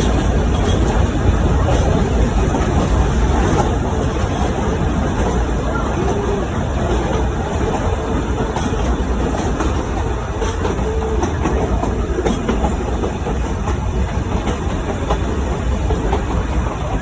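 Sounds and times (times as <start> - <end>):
train rumbling along track: 0.0 - 17.0
wheels clicking over rails: 0.0 - 17.0.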